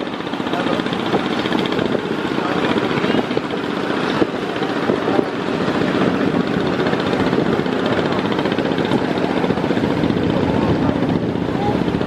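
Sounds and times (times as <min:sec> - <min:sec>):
boat engines running: 0:00.0 - 0:12.0
rushing water: 0:00.0 - 0:12.0
wind: 0:00.0 - 0:12.0.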